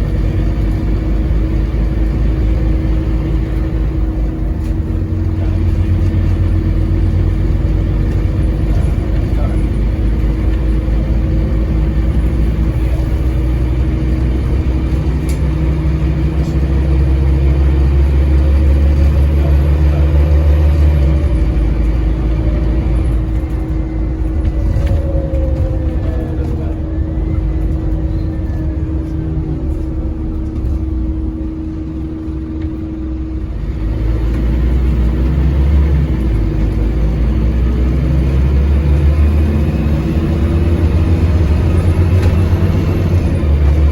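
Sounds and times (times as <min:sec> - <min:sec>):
bus diesel engine pulling hard: 0:00.0 - 0:43.9.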